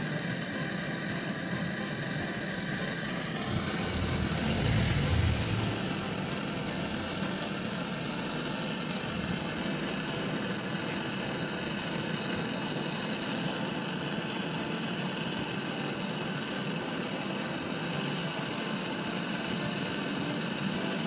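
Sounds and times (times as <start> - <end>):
gas torch hissing: 0.0 - 21.0.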